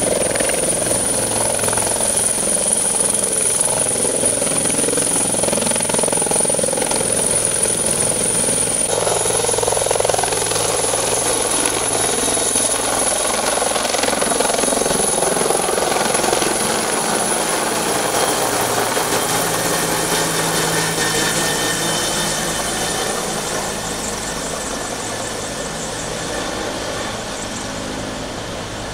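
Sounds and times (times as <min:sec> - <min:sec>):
helicopter rotor and engine: 0:00.0 - 0:28.9.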